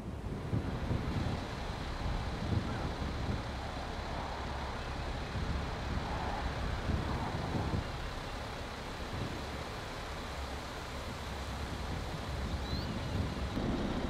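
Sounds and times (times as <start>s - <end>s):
heavy vehicle engine rumble: 0.0s - 14.0s
road and wind noise: 0.0s - 14.0s.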